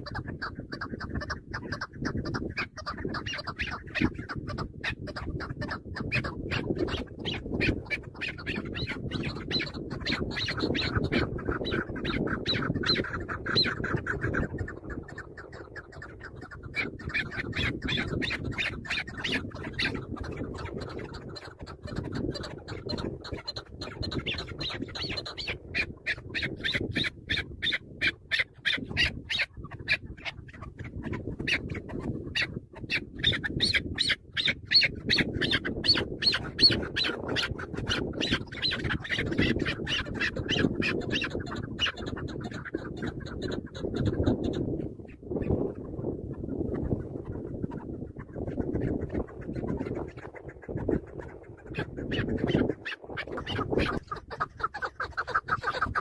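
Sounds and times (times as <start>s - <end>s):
partridge clucking calls: 0.0s - 56.0s.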